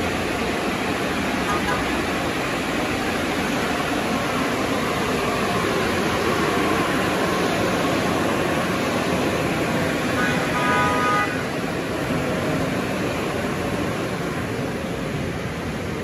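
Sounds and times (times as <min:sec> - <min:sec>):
car wash equipment rushing: 0:00.0 - 0:16.0.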